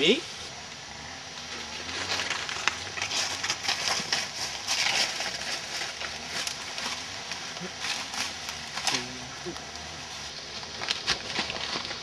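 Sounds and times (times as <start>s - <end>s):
footsteps in dry leaves: 1.4s - 12.0s.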